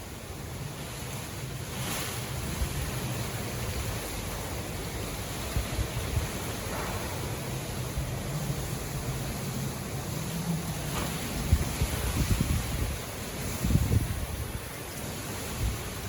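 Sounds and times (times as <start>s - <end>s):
wind gusting through trees: 0.0s - 16.0s
wind buffeting microphone: 0.1s - 16.0s.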